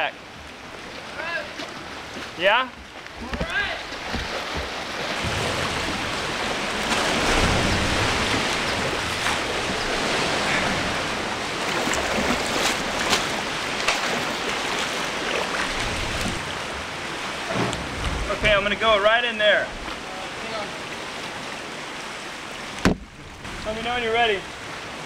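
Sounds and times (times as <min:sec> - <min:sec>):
surf washing around rocks: 0:00.0 - 0:25.0.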